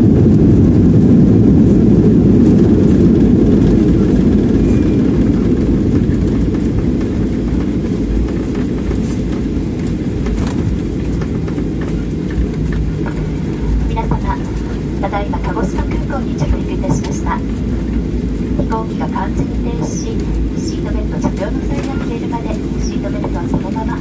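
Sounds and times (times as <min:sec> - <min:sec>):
jet engines and wheels rumbling: 0:00.0 - 0:24.0.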